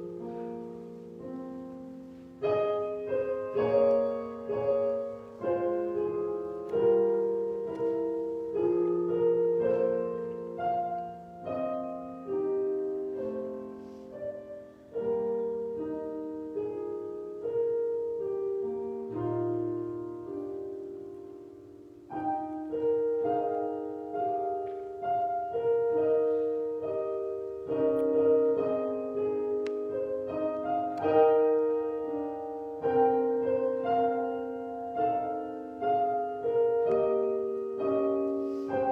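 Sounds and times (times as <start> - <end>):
slow piano chords: 0.0 - 38.9.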